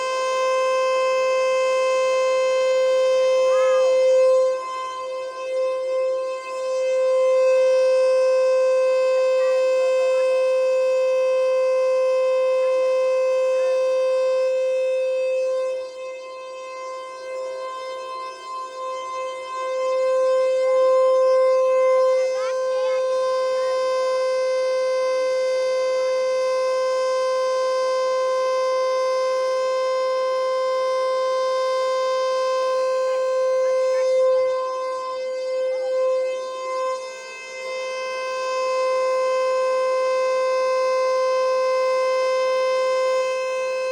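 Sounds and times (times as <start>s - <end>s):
warning siren steady tone: 0.0s - 43.9s.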